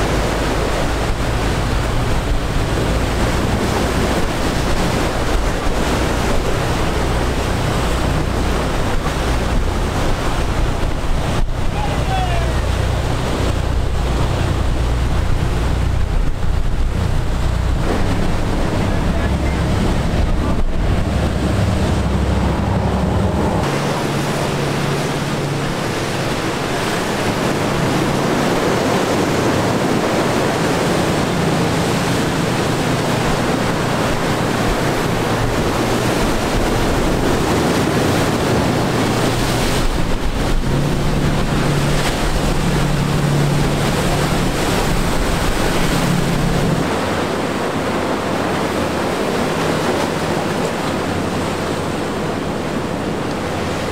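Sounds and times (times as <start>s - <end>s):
boat engines humming: 0.0s - 53.9s
waves: 0.0s - 53.9s
wind: 0.0s - 53.9s.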